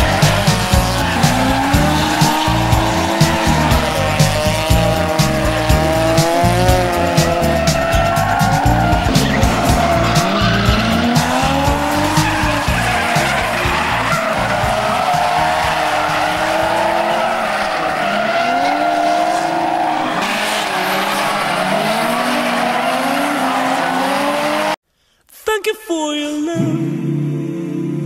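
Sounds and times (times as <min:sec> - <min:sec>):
car engines revving: 0:00.0 - 0:24.8
tyres squealing: 0:00.0 - 0:24.8.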